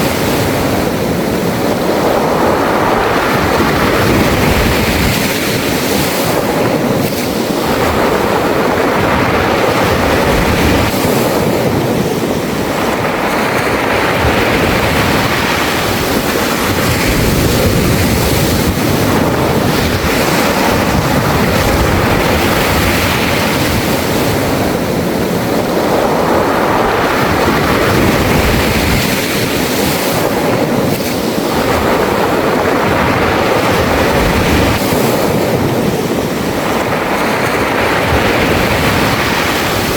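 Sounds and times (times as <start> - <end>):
sea waves washing over pebbles: 0.0 - 39.9.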